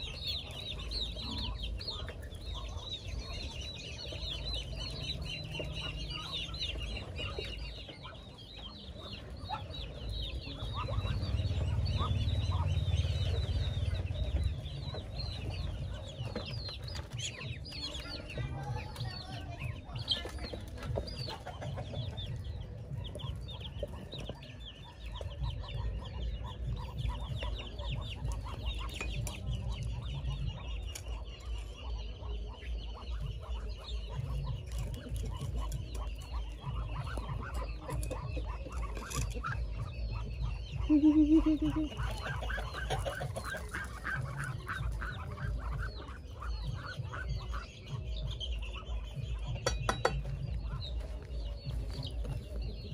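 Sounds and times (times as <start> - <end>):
poultry clucking: 0.0 - 52.9.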